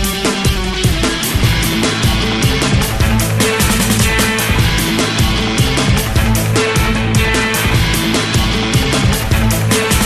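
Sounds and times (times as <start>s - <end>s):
distorted guitar: 0.0s - 10.0s
drum beat: 0.0s - 10.0s.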